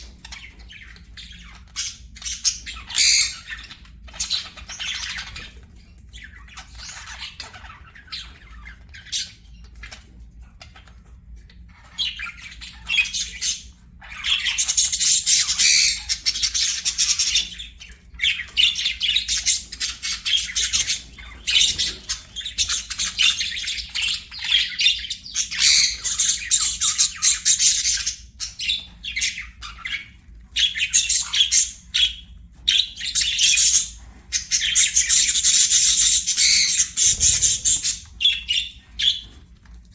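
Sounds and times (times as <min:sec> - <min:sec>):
budgerigars chirping and warbling: 0:00.0 - 0:39.8.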